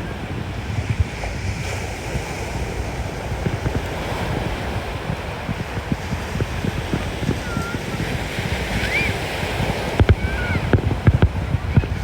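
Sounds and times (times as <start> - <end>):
steady rushing noise: 0.0 - 12.0
wind buffeting microphone: 0.0 - 12.0.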